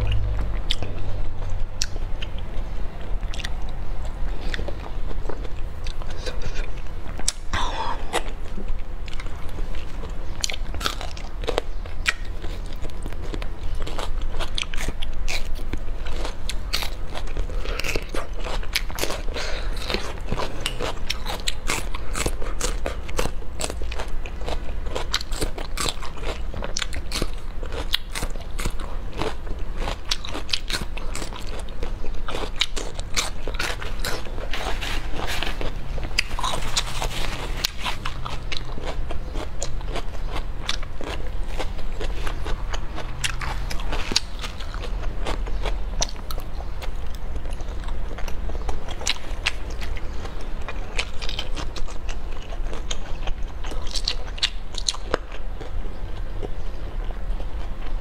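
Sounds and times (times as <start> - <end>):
crunchy chewing: 0.0 - 58.0.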